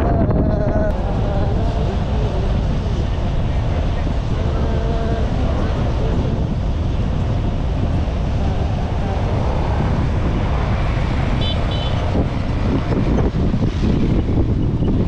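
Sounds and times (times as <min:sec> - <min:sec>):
motorcycle riding: 0:00.0 - 0:15.0
wind buffeting microphone: 0:00.0 - 0:15.0.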